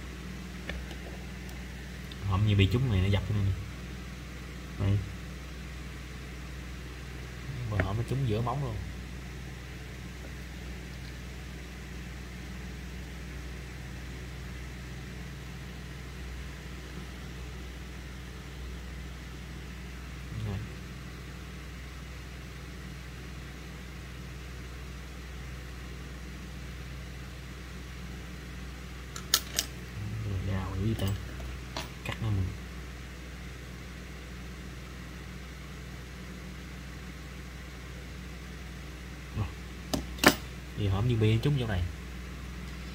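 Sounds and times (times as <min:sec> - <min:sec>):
low background hum: 0:00.0 - 0:42.9.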